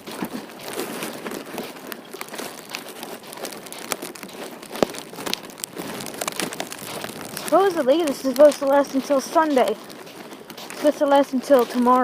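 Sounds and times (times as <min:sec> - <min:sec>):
footsteps crunching through icy slush: 0:00.0 - 0:12.0.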